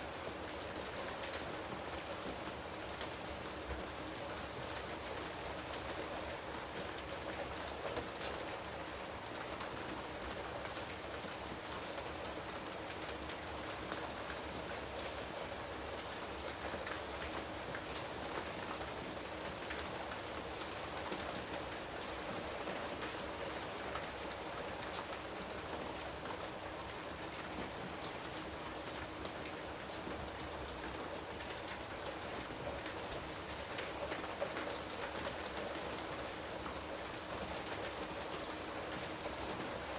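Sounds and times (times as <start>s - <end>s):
raindrops pattering on foliage: 0.0s - 39.9s.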